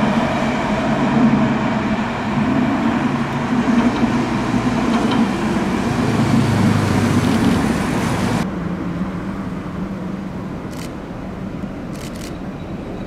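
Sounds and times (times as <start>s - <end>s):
road traffic noise: 0.0s - 13.0s
tram approaching: 0.0s - 13.0s
tram low hum: 0.0s - 13.0s.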